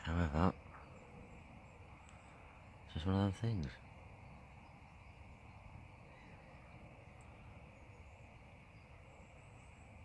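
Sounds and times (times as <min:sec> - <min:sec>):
distant bird calls: 0:00.0 - 0:10.0
low background hiss: 0:00.0 - 0:10.0.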